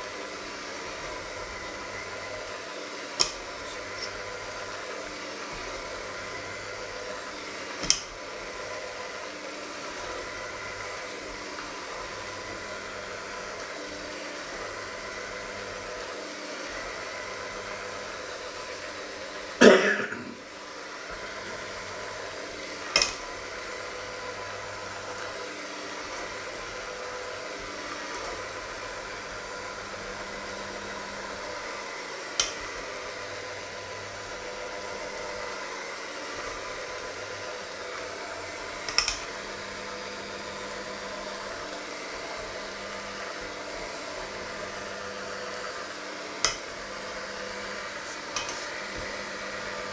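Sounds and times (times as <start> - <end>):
electric hand mixer running: 0.0 - 49.9.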